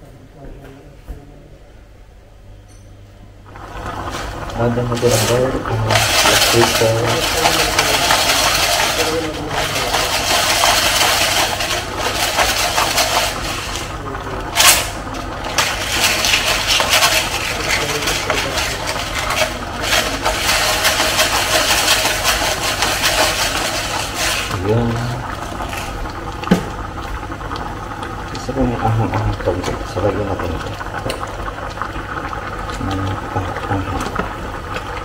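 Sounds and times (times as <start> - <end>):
sauce boiling and bubbling: 3.4 - 35.0.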